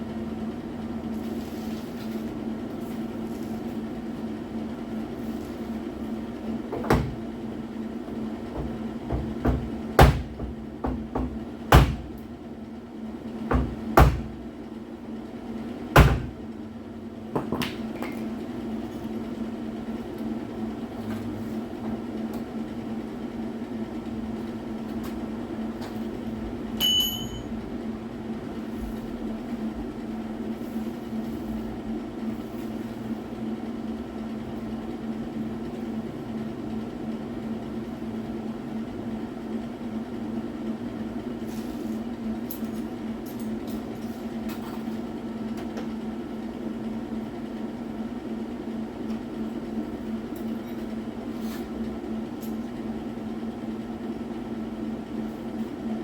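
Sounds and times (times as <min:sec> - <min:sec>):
steady electrical hum: 0:00.0 - 0:56.0.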